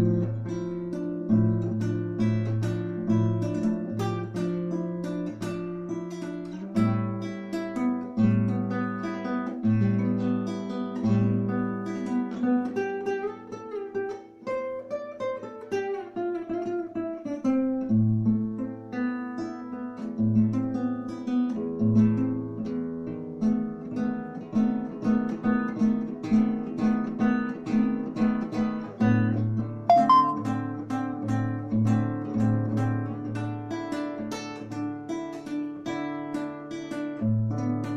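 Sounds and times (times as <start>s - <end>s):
acoustic guitar playing: 0.0s - 37.9s.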